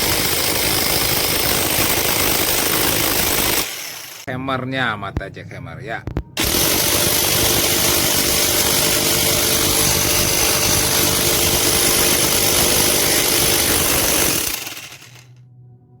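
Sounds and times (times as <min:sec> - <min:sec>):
electric jackhammer whining: 0:00.0 - 0:04.3, 0:06.4 - 0:15.4.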